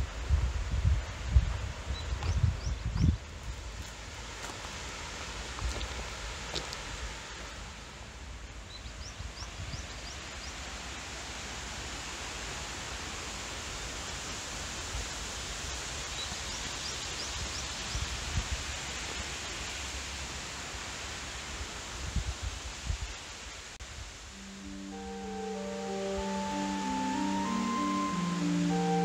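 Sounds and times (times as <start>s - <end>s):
small waterfall rushing: 3.2s - 29.0s.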